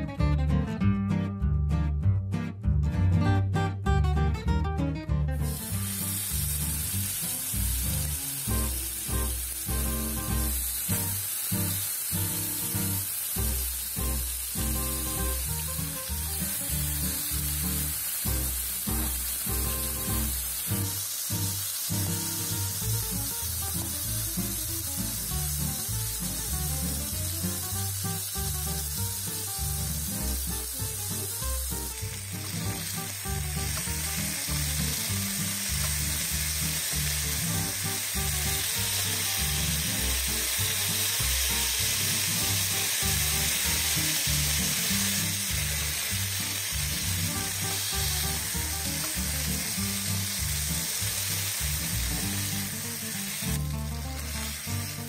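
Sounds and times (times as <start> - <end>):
background music with bass: 0.0 - 55.0
chicken sizzling in a pan: 5.4 - 55.0.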